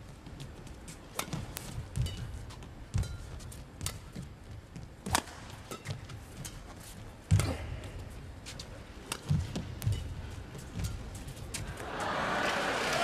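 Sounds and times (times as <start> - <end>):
rackets striking shuttlecock: 1.1 - 11.9.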